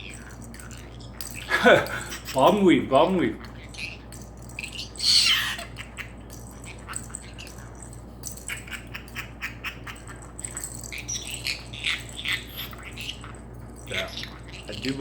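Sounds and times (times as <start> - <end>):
bird squawk: 0.0 - 15.0.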